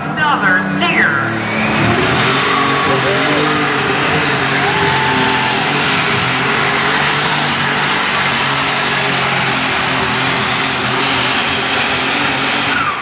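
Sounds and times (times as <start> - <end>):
tractor engine running flat out: 1.2 - 13.0.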